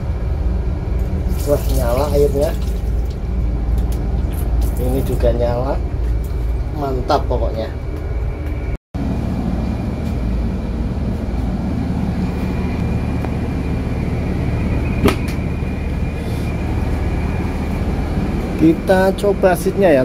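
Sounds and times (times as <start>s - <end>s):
air conditioning: 0.0s - 20.0s
bus diesel engine idling: 0.0s - 20.0s.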